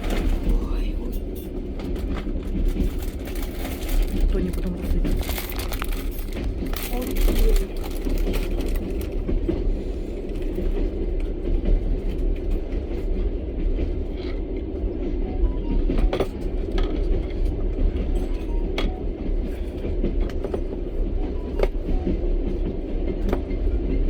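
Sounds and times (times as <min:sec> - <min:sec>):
train car rattle: 0:00.0 - 0:24.0
train wheels rumbling on rails: 0:00.0 - 0:24.0.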